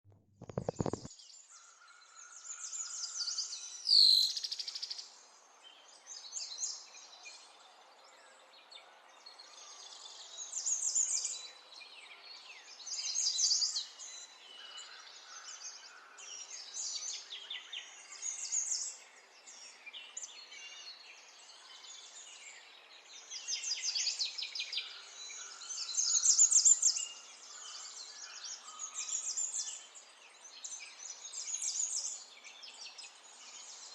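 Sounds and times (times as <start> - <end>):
small birds chirping: 0.3 - 33.9.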